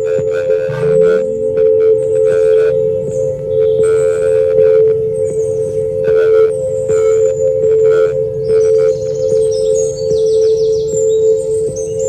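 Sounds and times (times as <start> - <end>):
steady alarm tone: 0.0 - 12.0.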